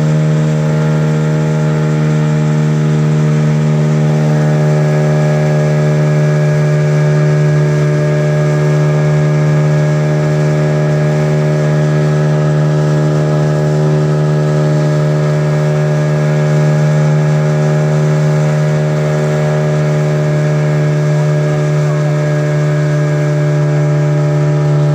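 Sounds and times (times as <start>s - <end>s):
boat engine droning: 0.0s - 24.9s.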